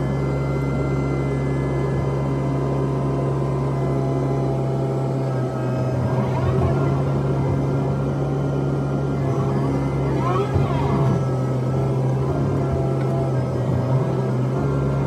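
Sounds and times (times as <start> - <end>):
excavator diesel engine running: 0.0 - 15.0
hydraulics whine: 0.0 - 15.0.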